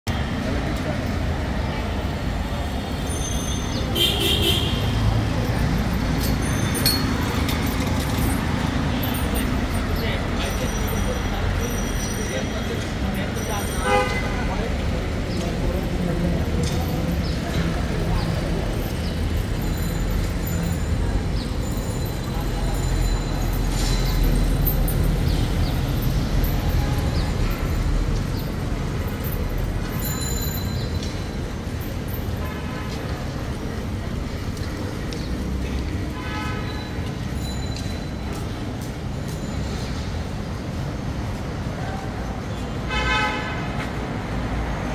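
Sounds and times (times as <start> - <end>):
city road traffic rumble: 0.0 - 44.9.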